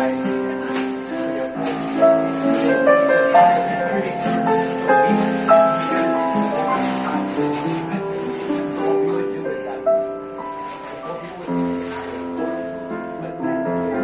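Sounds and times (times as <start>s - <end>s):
jazz piano: 0.0s - 14.0s.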